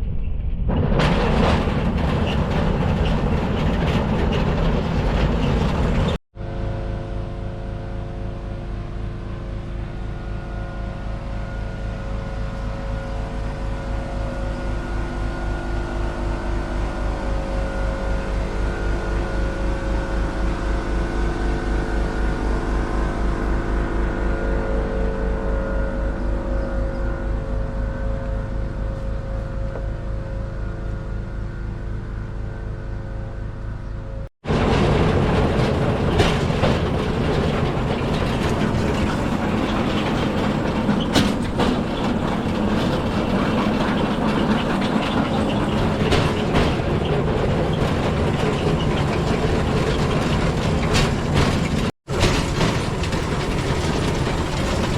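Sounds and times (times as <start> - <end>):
steel wheels rumbling on track: 0.7 - 33.6, 34.4 - 54.9.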